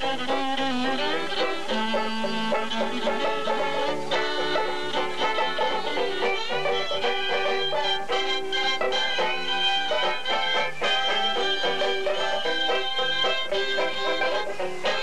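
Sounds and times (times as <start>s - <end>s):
fiddle playing folk tune: 0.0s - 15.0s
picked string accompaniment: 0.0s - 15.0s.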